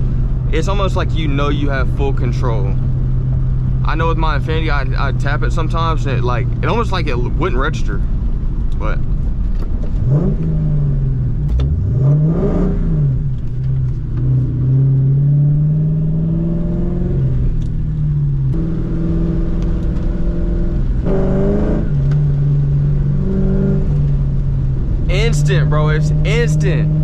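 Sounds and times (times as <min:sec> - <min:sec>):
car engine under throttle: 0:00.0 - 0:27.0.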